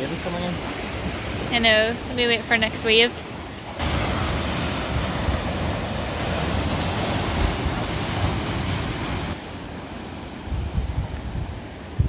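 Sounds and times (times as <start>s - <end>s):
wind buffeting microphone: 0.0s - 9.4s, 10.4s - 12.0s
sea waves breaking in rock gully: 0.0s - 12.0s.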